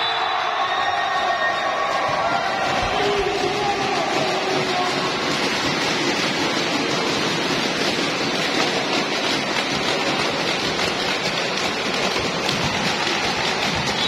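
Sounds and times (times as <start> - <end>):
noisy din of a sports hall: 0.0 - 14.0.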